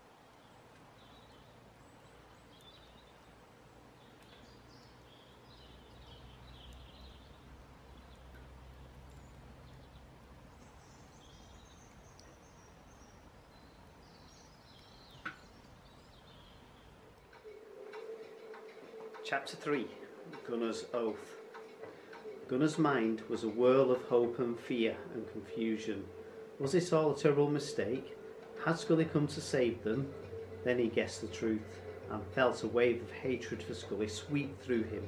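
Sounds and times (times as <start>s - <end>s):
low hum: 0.0s - 35.0s
wood fire crackling: 0.0s - 35.0s
faint high chirping: 0.2s - 35.0s.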